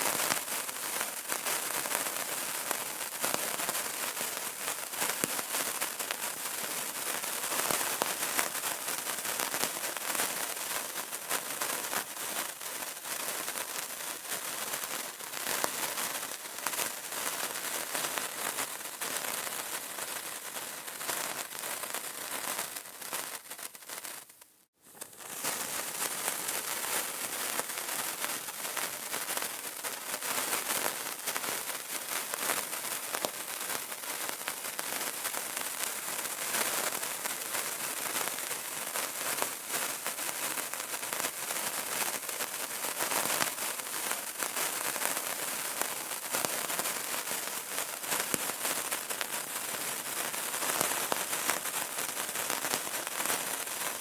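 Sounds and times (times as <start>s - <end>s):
candle crackling: 0.0s - 54.0s.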